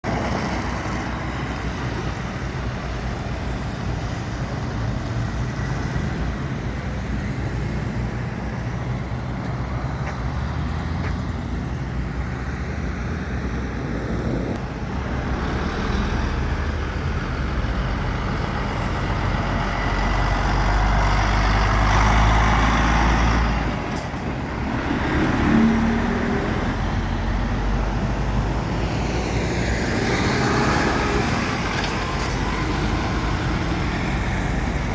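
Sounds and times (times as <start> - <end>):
truck engine rumble: 0.0 - 34.9.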